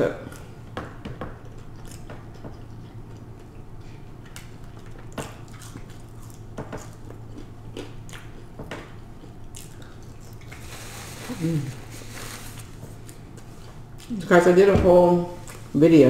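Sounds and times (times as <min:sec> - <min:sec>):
wet chewing: 0:00.2 - 0:14.5.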